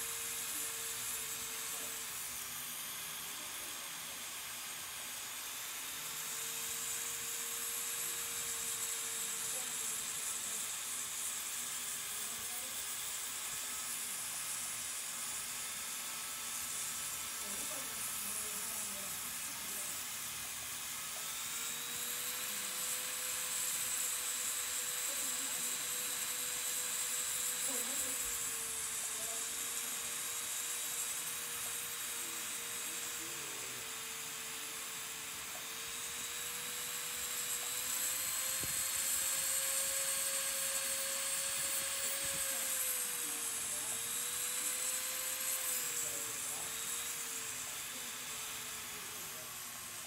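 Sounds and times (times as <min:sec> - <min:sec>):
electric nail drill whining: 0:00.0 - 0:50.0.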